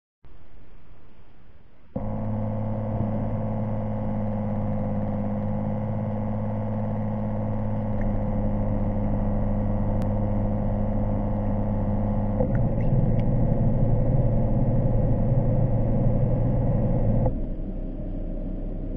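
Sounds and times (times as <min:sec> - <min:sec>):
thruster motors humming: 0:02.0 - 0:18.9.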